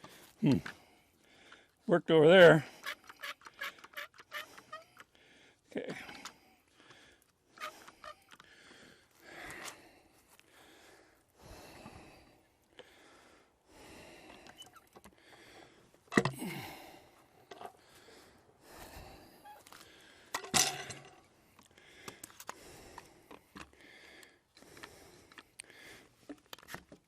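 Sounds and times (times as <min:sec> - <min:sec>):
man breathing hard: 0:00.0 - 0:01.8, 0:02.6 - 0:26.3.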